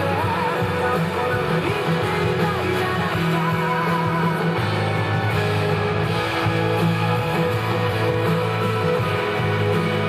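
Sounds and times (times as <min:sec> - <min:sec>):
dance music with guitar: 0:00.0 - 0:10.0.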